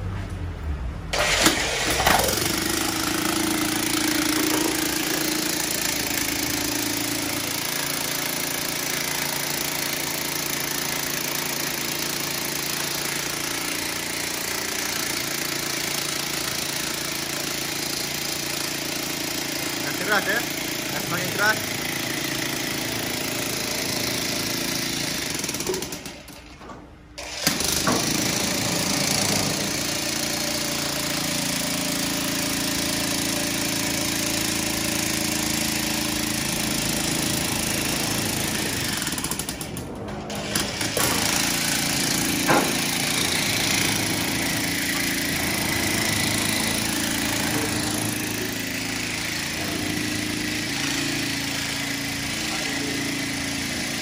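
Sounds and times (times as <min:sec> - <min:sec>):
demolition hammer hammering: 0:02.1 - 0:54.0.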